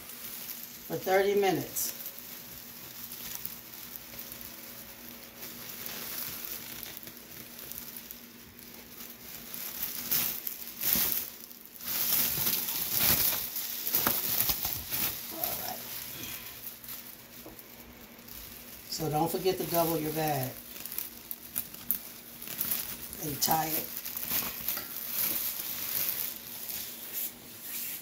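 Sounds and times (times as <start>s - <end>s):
plastic bag crinkling: 0.0s - 28.0s.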